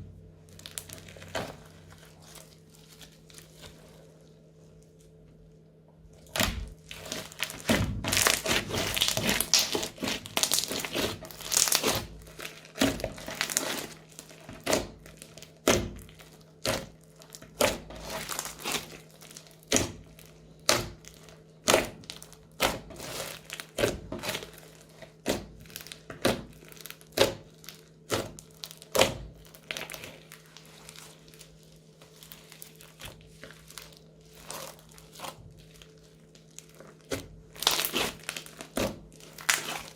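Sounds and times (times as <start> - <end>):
crunchy slime crackling and popping: 0.2 - 5.1, 6.1 - 39.9.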